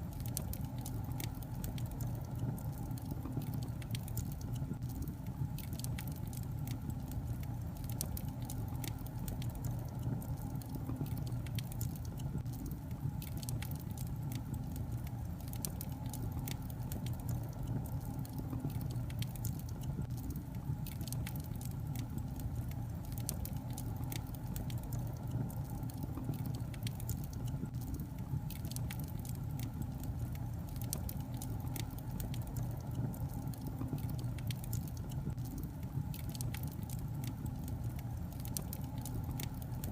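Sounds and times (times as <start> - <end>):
fire burning with crackles and pops: 0.0 - 39.9.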